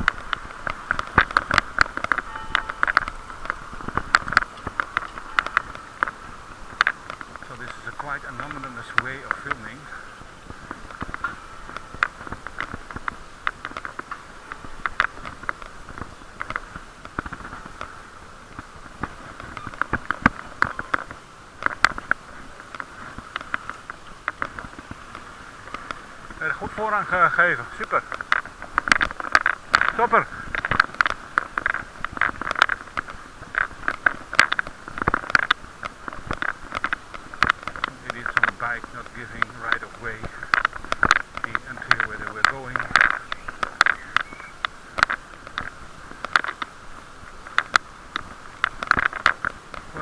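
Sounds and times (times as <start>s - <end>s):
dull rush of riding noise: 0.0s - 50.0s.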